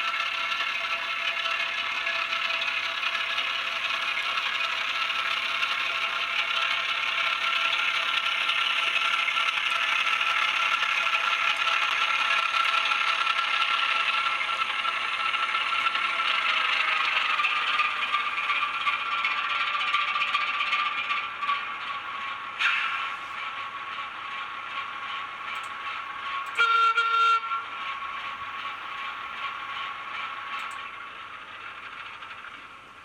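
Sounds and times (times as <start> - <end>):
model train rattling on track: 0.0 - 33.0
tinny model diesel engine sound: 0.0 - 33.0.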